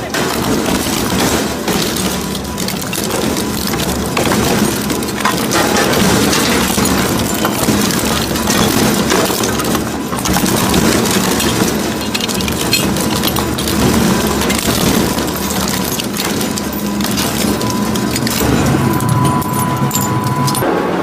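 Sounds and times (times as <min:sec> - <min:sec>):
crusher machine running: 0:00.0 - 0:21.0
motor hum: 0:00.5 - 0:20.6.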